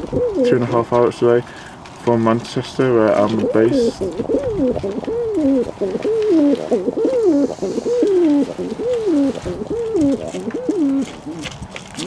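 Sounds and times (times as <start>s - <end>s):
pigeons cooing: 0.0s - 0.8s, 3.1s - 12.0s.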